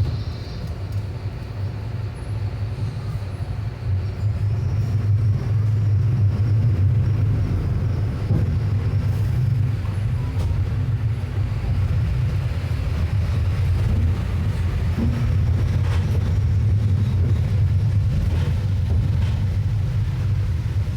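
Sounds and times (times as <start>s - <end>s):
diesel bus engine droning: 0.0s - 20.9s.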